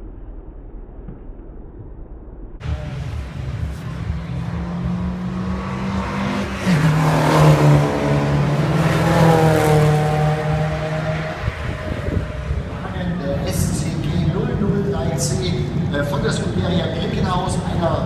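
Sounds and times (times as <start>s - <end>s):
race car engine passing: 2.6s - 18.0s.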